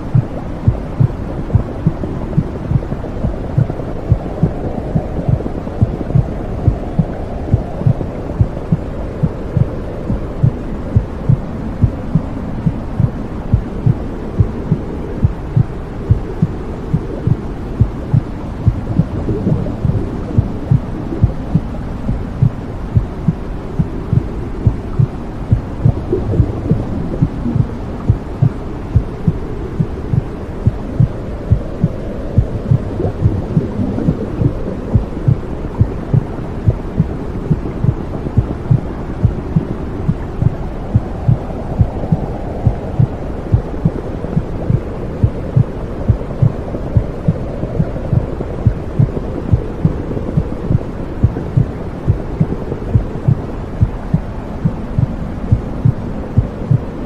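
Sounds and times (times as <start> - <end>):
low whooshing rush: 0.0 - 57.0
muffled heartbeat: 0.0 - 57.0.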